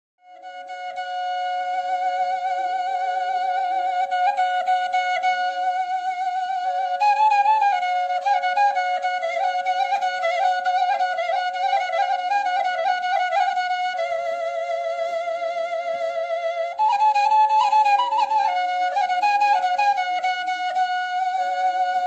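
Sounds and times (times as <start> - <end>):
wind instrument folk melody: 0.3 - 22.0.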